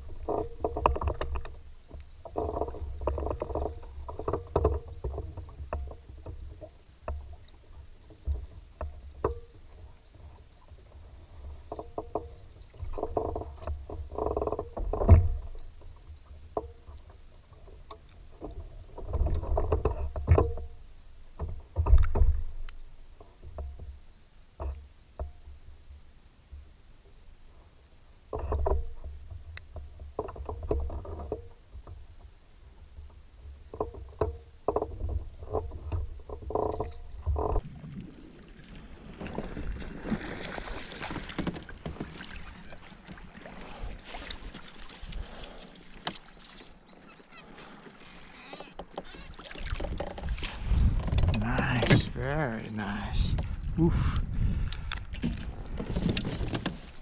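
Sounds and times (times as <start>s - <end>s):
water sloshing against hull: 0.0s - 57.0s.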